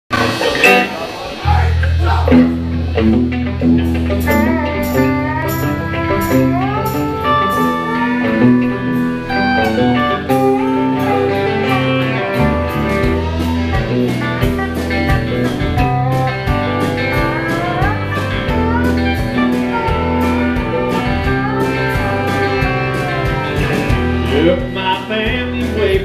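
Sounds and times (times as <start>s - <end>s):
pedal steel guitar sliding notes: 0.1s - 25.9s
drum kit steady beat: 0.1s - 26.0s
electric guitars: 0.1s - 26.0s.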